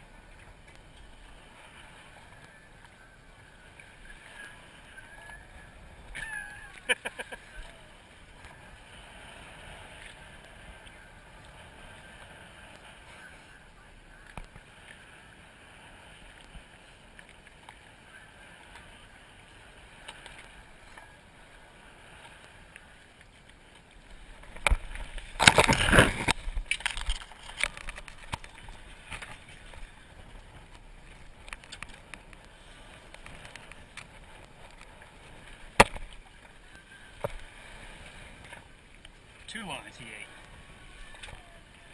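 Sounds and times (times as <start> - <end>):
sea water washing: 0.0 - 41.9
wind: 0.0 - 41.9.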